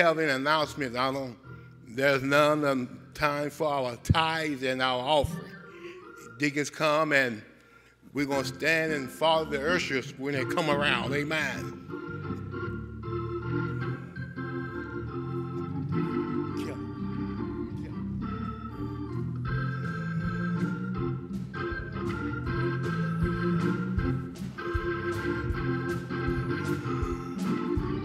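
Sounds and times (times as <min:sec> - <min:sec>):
organ playing slow chords: 0:00.0 - 0:28.0.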